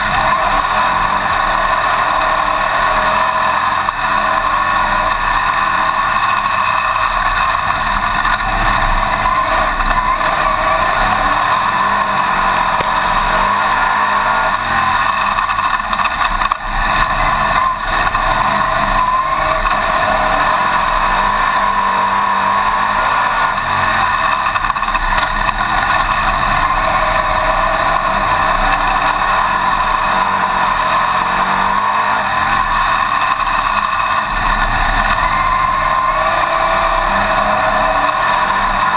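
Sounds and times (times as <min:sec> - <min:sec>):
race car engine droning: 0:00.0 - 0:38.9.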